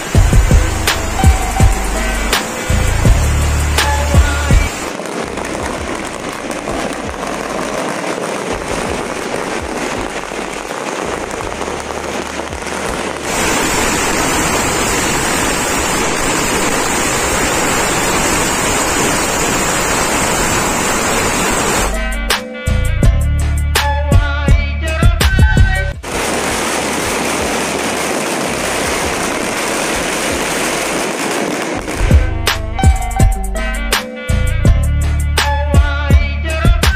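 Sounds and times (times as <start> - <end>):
firecrackers crackling: 0.0 - 22.4, 25.9 - 33.2.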